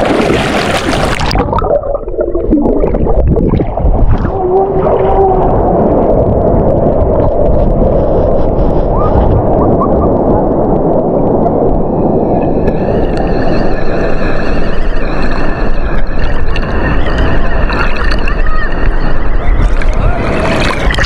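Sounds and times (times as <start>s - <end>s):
wind buffeting microphone: 0.0s - 21.0s
beach surf: 3.6s - 21.0s.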